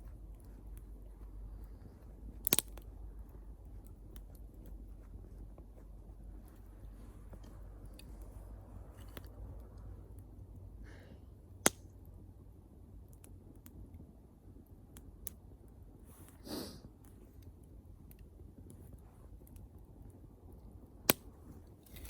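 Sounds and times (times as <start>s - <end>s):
bonfire crackling: 0.0s - 22.0s.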